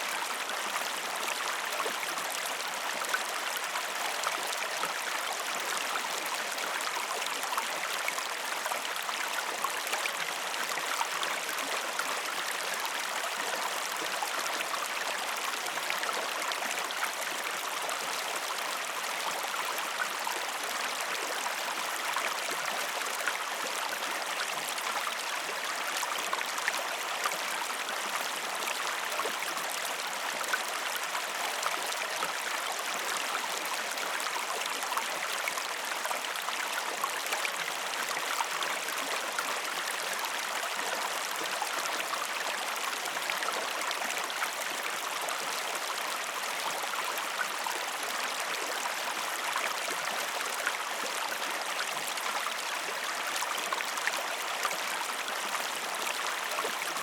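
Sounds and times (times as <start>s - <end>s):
flowing water: 0.0s - 57.0s.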